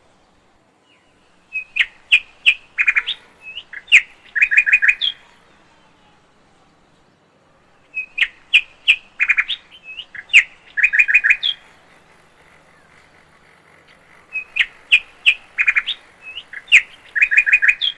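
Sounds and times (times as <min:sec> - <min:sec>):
lovebirds chirping: 0:00.0 - 0:17.9.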